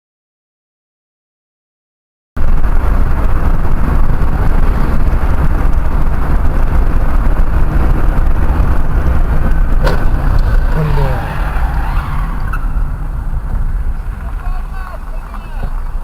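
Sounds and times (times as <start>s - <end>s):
vehicle road noise rumble: 2.4s - 16.0s.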